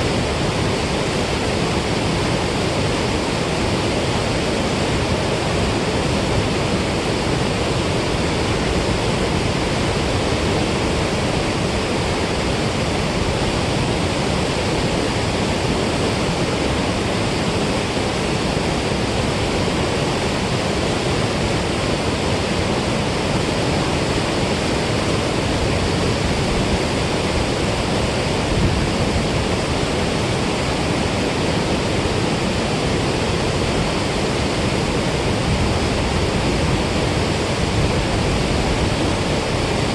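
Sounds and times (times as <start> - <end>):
water rushing through spillway: 0.0 - 39.9.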